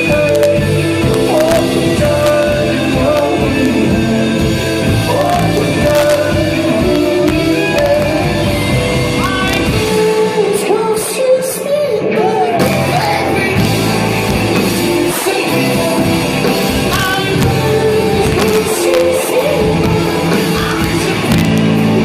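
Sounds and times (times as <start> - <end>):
person singing: 0.0 - 22.0
rock band playing live: 0.0 - 22.0.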